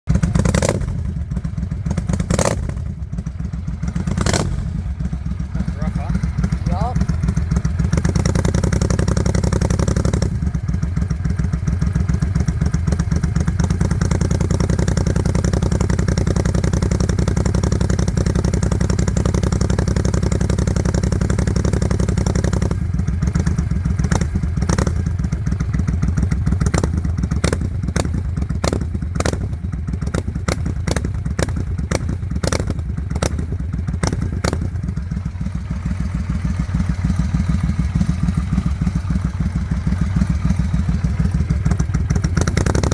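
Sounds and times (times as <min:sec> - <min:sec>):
motorcycle engine idling: 0:00.1 - 0:42.9.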